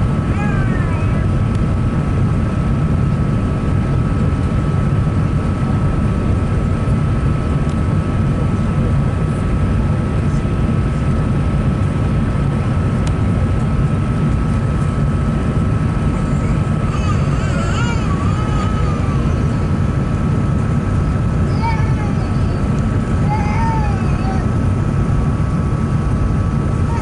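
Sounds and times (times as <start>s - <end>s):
airplane cabin engine rumble: 0.0s - 27.0s
high engine whine: 0.0s - 27.0s.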